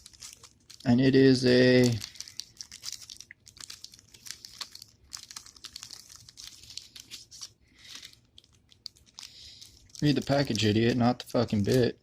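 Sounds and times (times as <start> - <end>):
package crinkling and rustling: 0.0 - 11.9.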